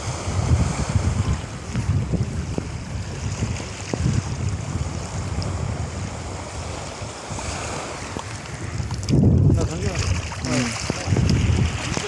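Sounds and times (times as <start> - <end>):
small waves washing ashore: 0.0 - 12.0
wind on microphone: 0.0 - 12.0.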